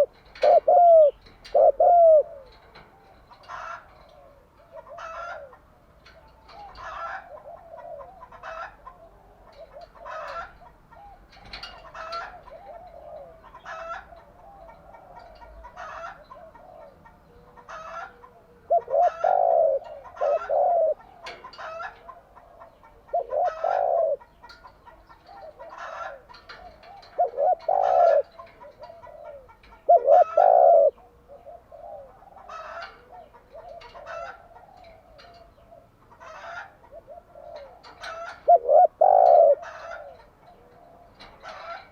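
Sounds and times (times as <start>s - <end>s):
dove cooing: 0.0s - 41.9s
other birds calling: 0.0s - 41.9s.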